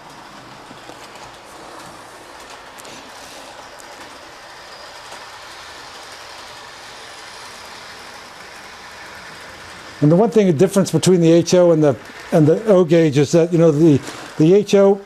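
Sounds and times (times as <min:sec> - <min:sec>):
model train running on rails: 0:00.0 - 0:15.0.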